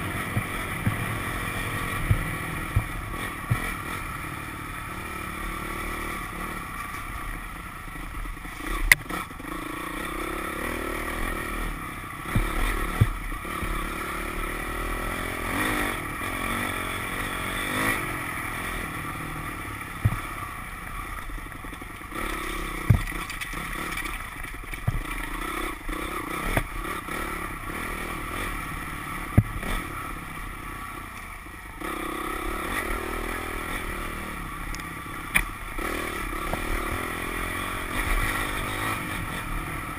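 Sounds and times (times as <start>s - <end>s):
dirt bike engine revving: 0.0s - 6.8s, 8.0s - 30.8s, 31.8s - 39.9s.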